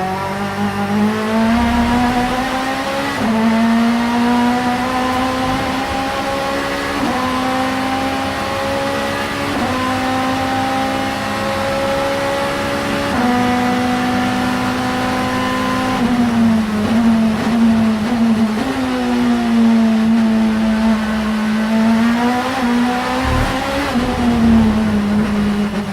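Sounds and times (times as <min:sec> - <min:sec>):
race car engine at high revs: 0:00.0 - 0:25.9.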